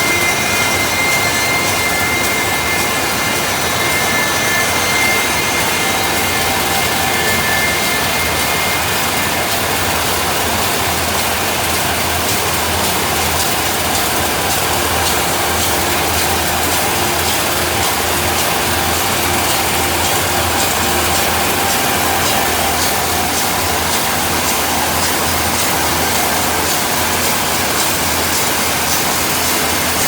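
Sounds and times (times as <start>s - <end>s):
sawmill cutting log: 0.0s - 30.0s.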